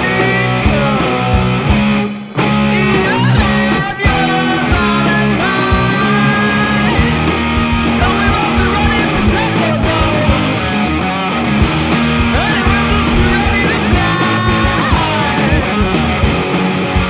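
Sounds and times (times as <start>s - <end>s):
rock band with guitars: 0.0s - 17.0s.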